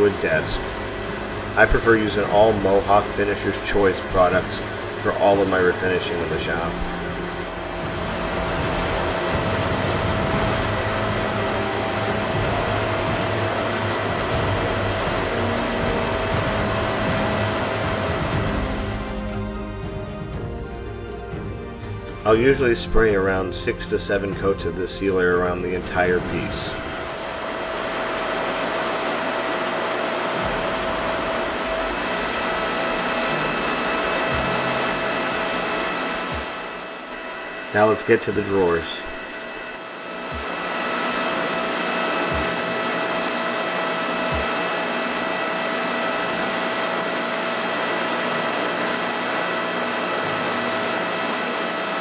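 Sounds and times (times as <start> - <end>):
spray gun hissing: 0.0 - 19.5, 25.1 - 52.0
steady hum: 0.0 - 52.0.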